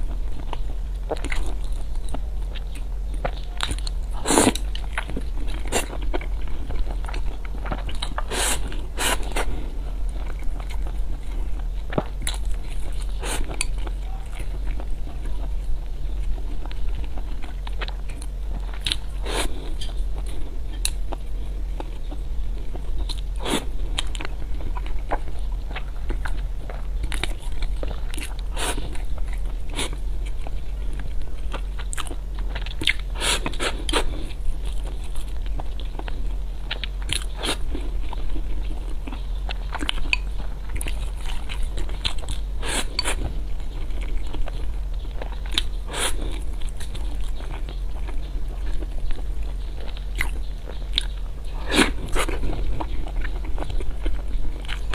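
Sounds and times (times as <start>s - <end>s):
chewing crunchy food: 0.0s - 54.9s
low hum: 0.0s - 54.9s.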